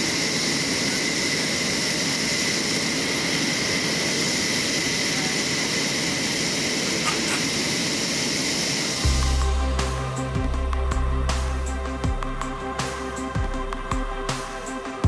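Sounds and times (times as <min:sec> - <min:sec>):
turbine engine whine and hiss: 0:00.0 - 0:15.0.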